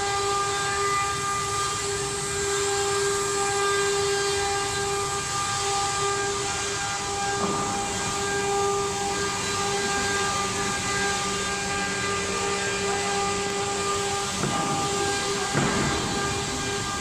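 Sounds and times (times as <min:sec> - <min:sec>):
wood router spindle whine: 0:00.0 - 0:17.0
cutting hiss: 0:01.4 - 0:17.0.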